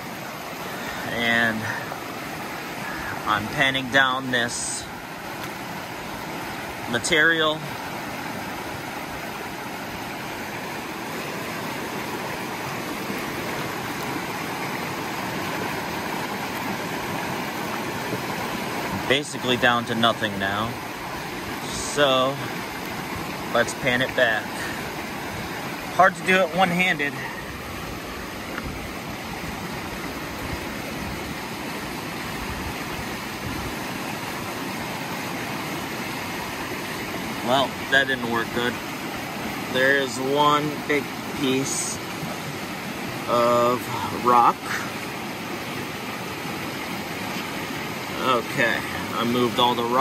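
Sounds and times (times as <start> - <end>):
creek flowing over rocks: 0.0 - 50.0.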